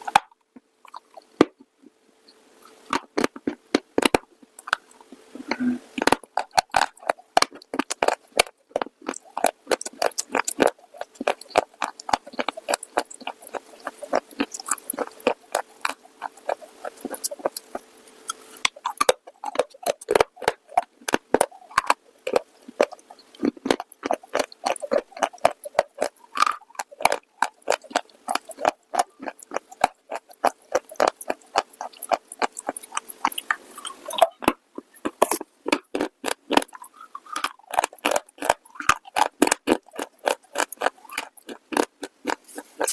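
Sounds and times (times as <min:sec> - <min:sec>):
crunching and chewing: 0:00.0 - 0:01.7, 0:02.6 - 0:42.9
faint steady hum: 0:00.0 - 0:42.9.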